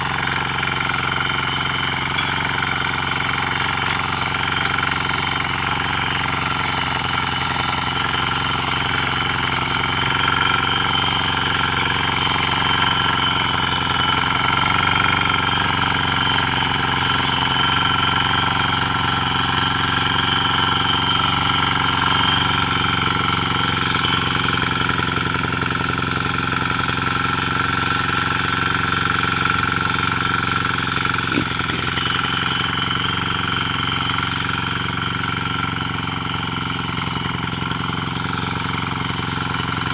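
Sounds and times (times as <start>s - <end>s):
rotary tiller engine running: 0.0s - 39.9s.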